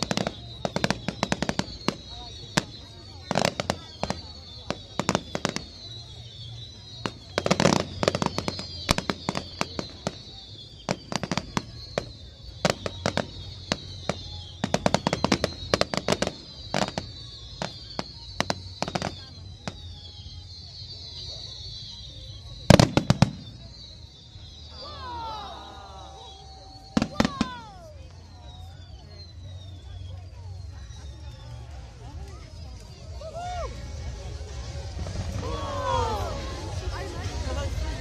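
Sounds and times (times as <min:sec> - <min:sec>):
firework whistles falling in pitch: 0:00.0 - 0:38.0
fireworks bangs and crackles: 0:00.0 - 0:38.0.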